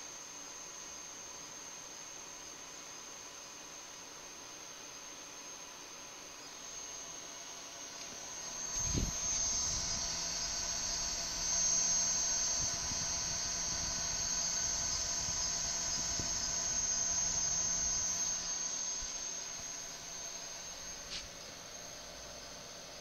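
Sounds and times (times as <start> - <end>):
high-pitched electronic whine and hiss: 0.0 - 23.0.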